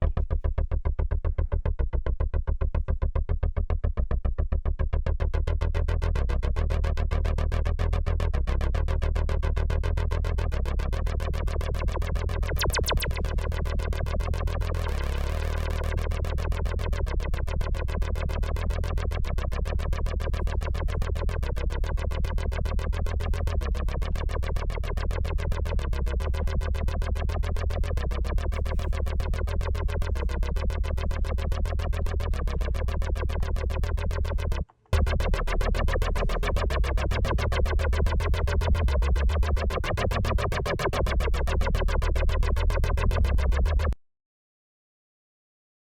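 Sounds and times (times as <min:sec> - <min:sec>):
buzzy pulsing synthesizer: 0:04.9 - 0:44.0.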